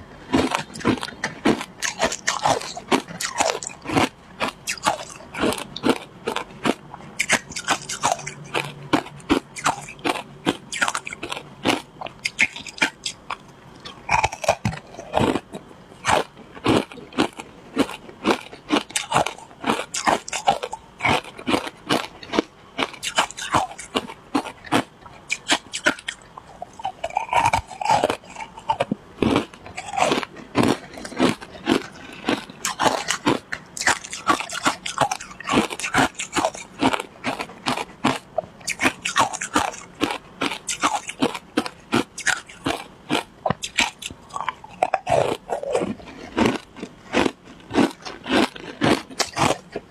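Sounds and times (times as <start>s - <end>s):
crunching shaved ice: 0.3s - 49.9s.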